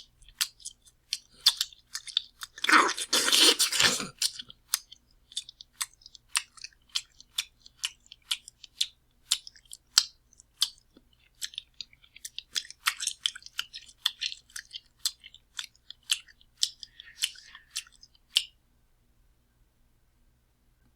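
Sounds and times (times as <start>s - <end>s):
wet open-mouthed chewing: 0.0s - 18.6s.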